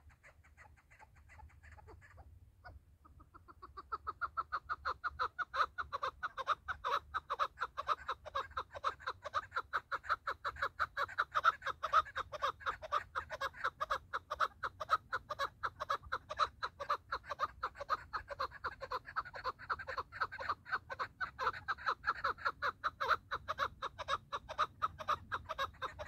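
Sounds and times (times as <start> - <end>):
partridge clucking calls: 0.0 - 26.0.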